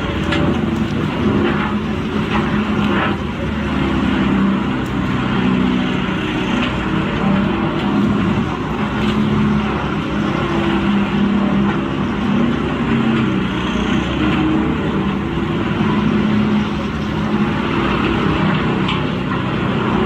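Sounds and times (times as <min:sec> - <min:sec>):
engine drone: 0:00.0 - 0:20.0
logs being ground: 0:00.0 - 0:20.0.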